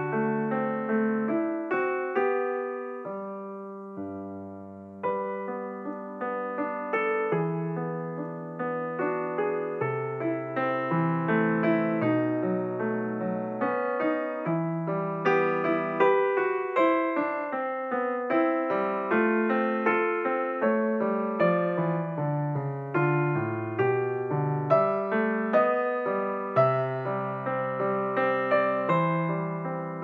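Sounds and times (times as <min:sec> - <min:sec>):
slow solo piano notes: 0:00.0 - 0:30.0.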